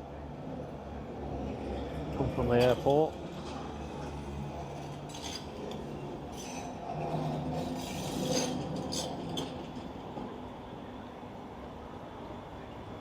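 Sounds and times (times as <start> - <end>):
tram motor hum: 0.0 - 13.0.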